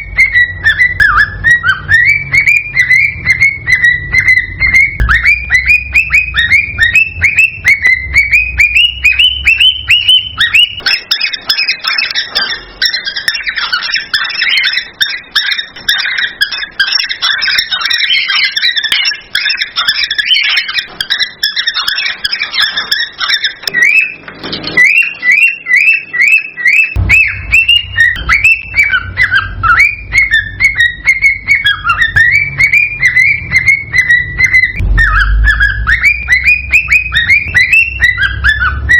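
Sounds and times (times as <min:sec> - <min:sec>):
cockatiel chirping whistles: 0:00.0 - 0:38.9.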